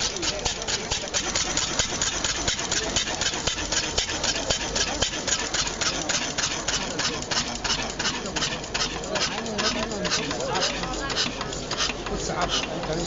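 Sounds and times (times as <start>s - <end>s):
single-cylinder engine idling: 0.0s - 13.0s.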